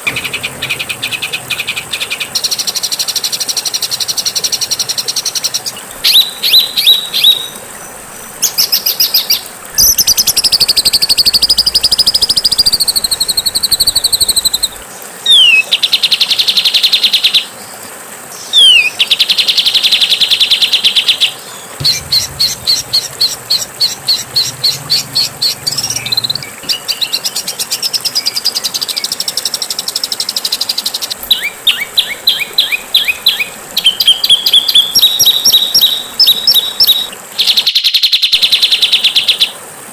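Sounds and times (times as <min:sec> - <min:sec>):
songbird chirps and trills: 0:00.0 - 0:17.4, 0:18.4 - 0:39.4
faint steady hiss: 0:00.0 - 0:39.9.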